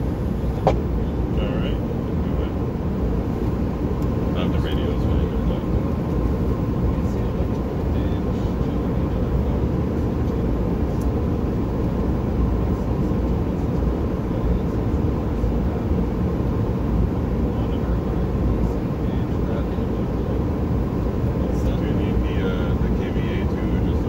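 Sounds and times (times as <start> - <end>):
jet airflow and engine rumble: 0.0 - 24.0.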